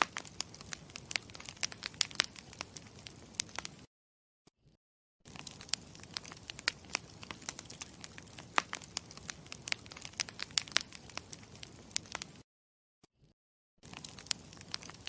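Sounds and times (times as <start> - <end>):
campfire crackling: 0.0 - 3.9, 5.3 - 12.4, 13.8 - 15.0.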